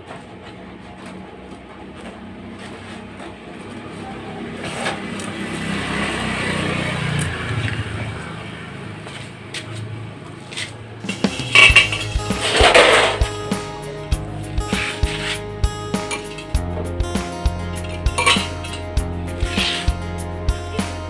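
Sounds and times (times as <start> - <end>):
vehicle passing by: 0.0 - 16.6, 17.3 - 21.0.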